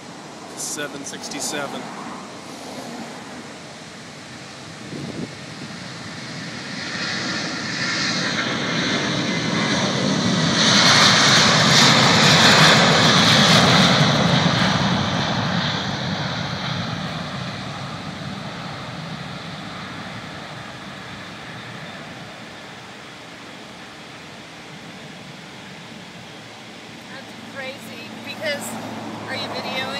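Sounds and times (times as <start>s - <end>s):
jet airliner roaring past: 0.0s - 29.9s.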